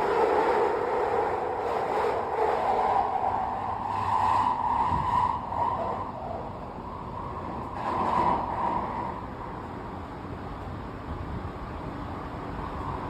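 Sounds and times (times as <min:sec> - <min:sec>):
underground train whine: 0:00.0 - 0:13.0.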